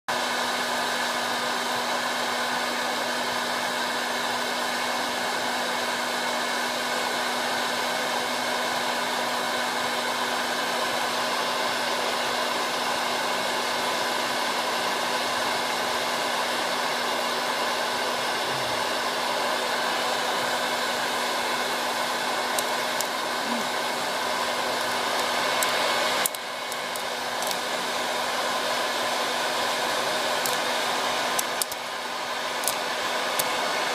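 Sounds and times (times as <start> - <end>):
popcorn maker fan whirring: 0.1 - 33.9.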